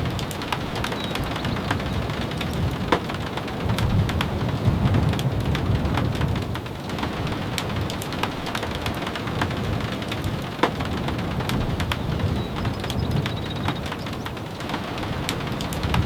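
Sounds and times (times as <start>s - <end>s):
rain falling on a wooden cabin: 0.0s - 16.0s.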